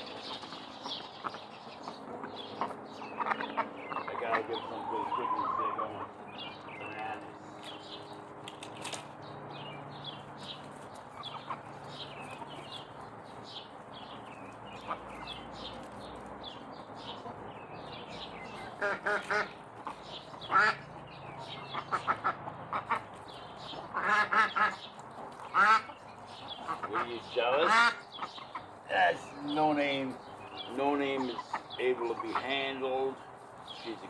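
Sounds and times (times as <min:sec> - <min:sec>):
ducks quacking: 0:00.0 - 0:07.8, 0:10.1 - 0:34.0.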